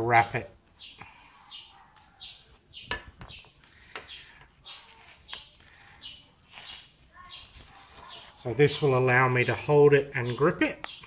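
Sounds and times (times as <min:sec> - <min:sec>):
small bird chirping: 0:00.1 - 0:11.0.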